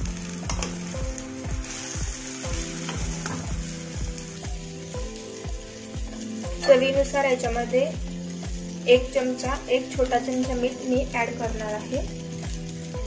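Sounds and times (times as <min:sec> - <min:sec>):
background music with steady beat: 0:00.0 - 0:13.0
vegetables sizzling in oil: 0:00.0 - 0:13.0.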